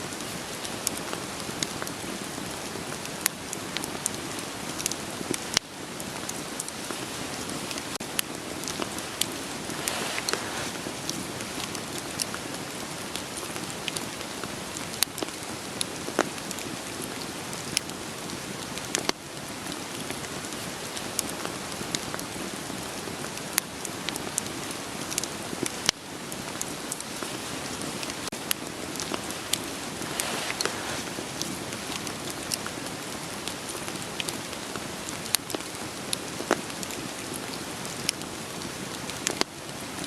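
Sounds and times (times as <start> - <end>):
steady rain: 0.0 - 40.0
campfire crackling: 0.1 - 40.0.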